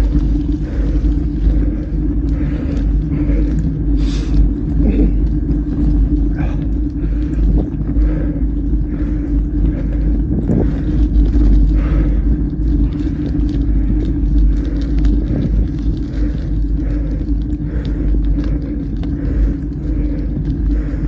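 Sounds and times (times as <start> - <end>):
bike tyres rolling: 0.0 - 21.0
continuous low hum: 0.0 - 21.0
wind on microphone: 0.0 - 21.0.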